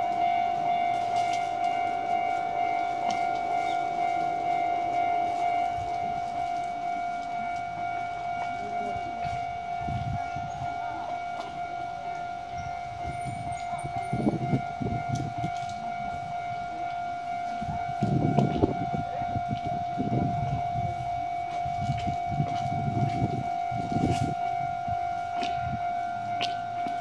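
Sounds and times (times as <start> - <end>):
level crossing warning bell: 0.0 - 27.0.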